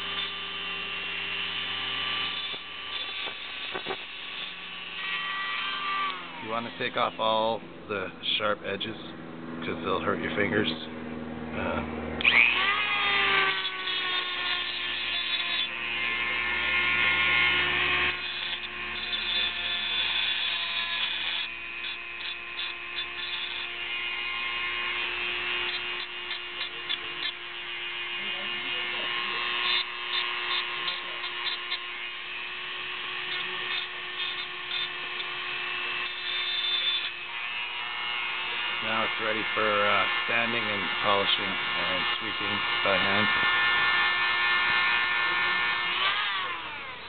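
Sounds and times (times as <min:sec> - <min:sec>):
rotary tool grinding metal: 0:00.0 - 0:10.9, 0:11.6 - 0:47.0.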